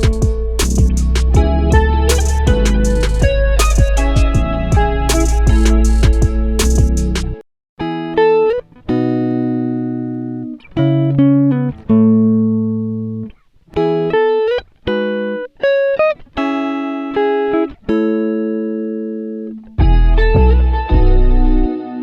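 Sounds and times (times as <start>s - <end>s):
guitar chords and notes: 0.0s - 22.0s.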